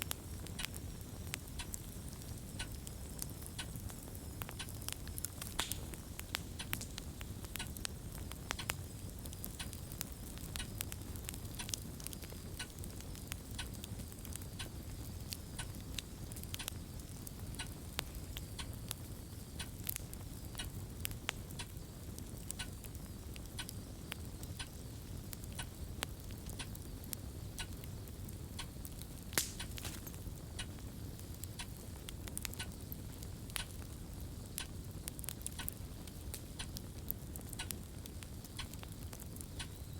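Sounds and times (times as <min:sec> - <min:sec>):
fire crackling and popping: 0:00.0 - 0:39.9
low steady fire rumble: 0:00.0 - 0:39.9.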